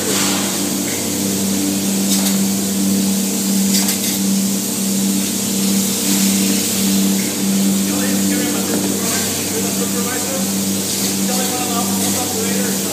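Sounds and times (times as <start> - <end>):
machine hum: 0.0 - 12.9.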